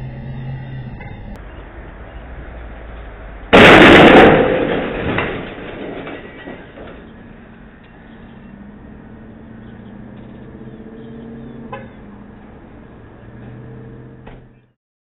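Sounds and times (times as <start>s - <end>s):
traffic engines humming: 0.0s - 3.8s, 5.8s - 14.8s.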